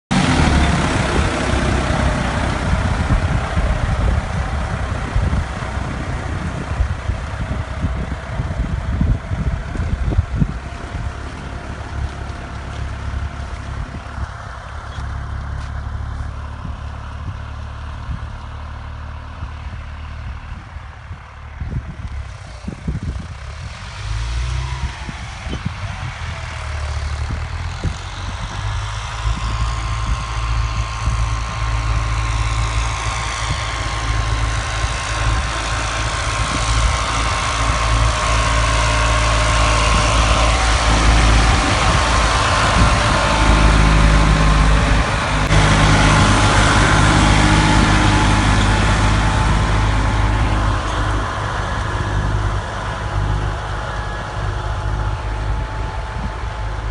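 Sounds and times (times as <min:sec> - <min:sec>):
tractor diesel engine running: 0:00.1 - 0:56.9.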